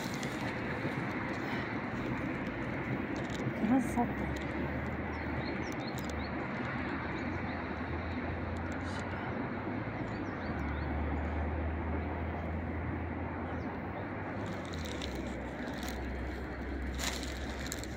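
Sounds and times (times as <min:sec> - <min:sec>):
outdoor rumble and hiss: 0:00.0 - 0:17.9.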